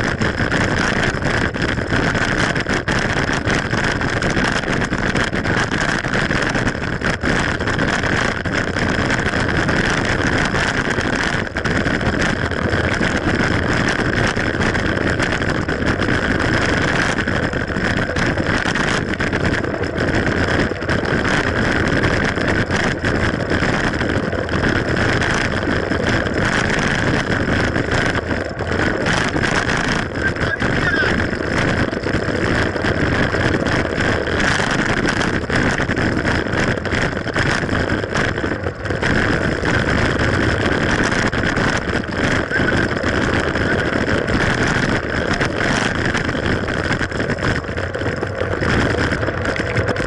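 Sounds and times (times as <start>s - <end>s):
bike knocks and rattles: 0.0s - 50.0s
mountain bike rolling on trail: 0.0s - 50.0s
wind on camera microphone: 0.0s - 50.0s.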